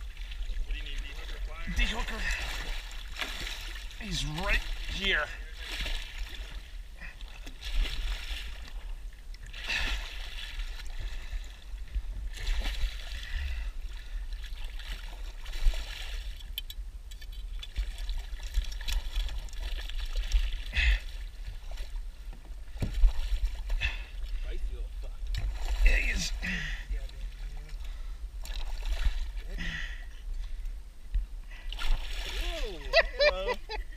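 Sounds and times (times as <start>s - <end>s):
steady low rumble: 0.0s - 19.4s, 20.4s - 33.9s
water splashing at boat's side: 0.0s - 24.4s, 25.2s - 29.6s, 31.6s - 33.8s.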